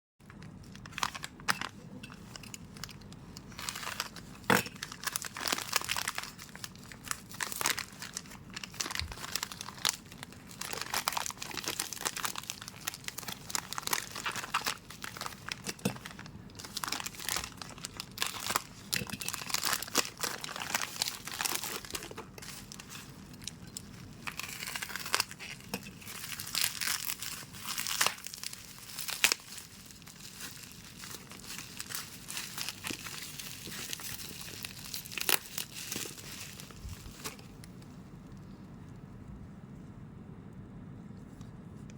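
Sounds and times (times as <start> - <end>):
packaging crinkling and tearing: 0.2 - 37.9.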